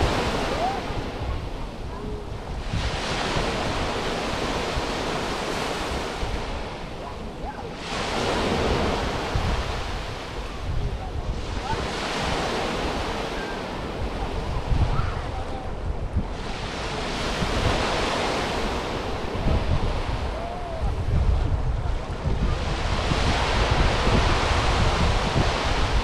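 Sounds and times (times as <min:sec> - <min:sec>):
waves washing onto beach: 0:00.0 - 0:26.0
wind buffeting microphone: 0:00.0 - 0:26.0.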